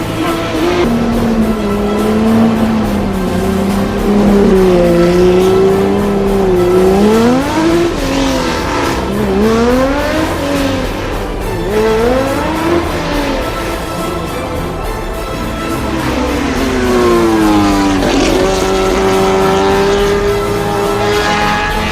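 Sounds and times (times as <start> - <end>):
background music with beat: 0.0 - 21.9
car engine revving: 0.0 - 21.9.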